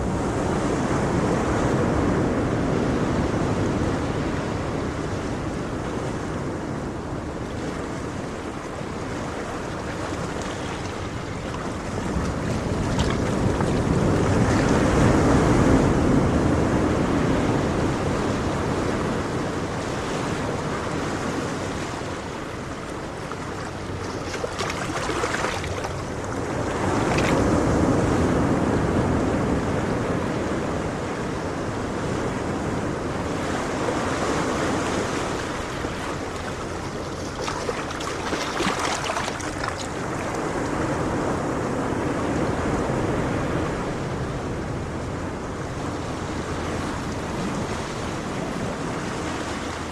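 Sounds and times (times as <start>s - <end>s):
ocean waves breaking: 0.0s - 49.9s.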